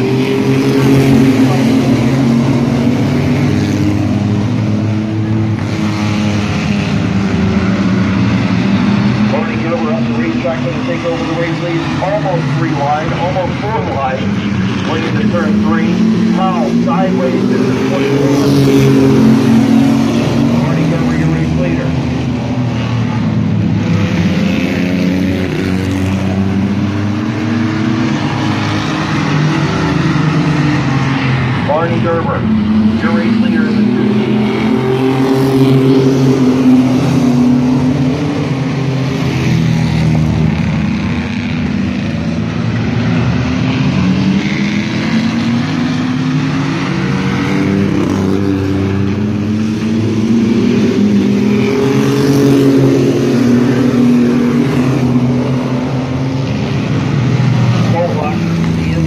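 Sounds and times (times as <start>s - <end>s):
race truck engines passing: 0.0s - 59.0s.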